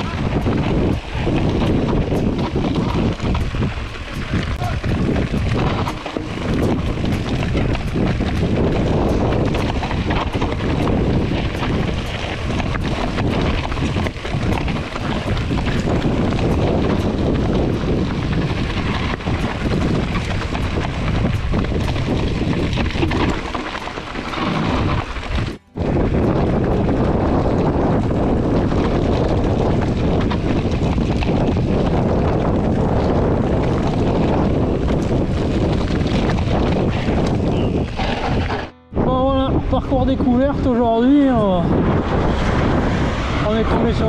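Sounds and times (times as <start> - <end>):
bike knocks and rattles: 0.0 - 38.7
tyres crunching over stones: 0.0 - 38.7
wind noise on microphone: 0.0 - 44.0.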